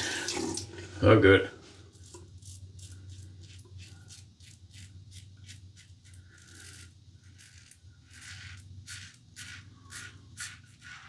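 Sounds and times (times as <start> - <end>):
razor scraping stubble: 2.0 - 11.0.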